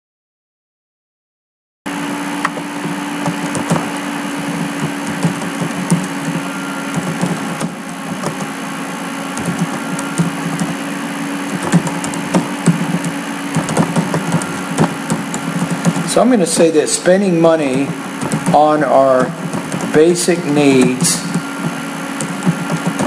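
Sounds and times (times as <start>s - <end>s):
low electrical hum: 1.9s - 23.0s.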